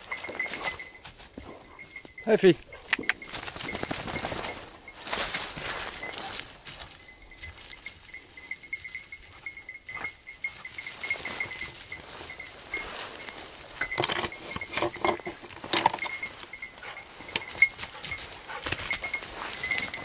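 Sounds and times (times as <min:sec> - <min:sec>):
small bell tinkling: 0:00.0 - 0:20.0.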